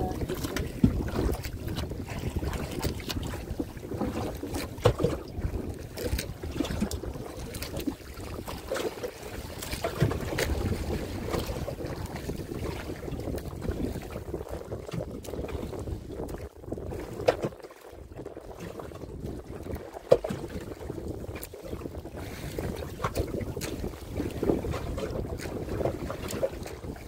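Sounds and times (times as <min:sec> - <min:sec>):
water sloshing around boat: 0:00.0 - 0:27.0
water splashes: 0:00.0 - 0:27.0
wind on microphone: 0:00.0 - 0:27.0.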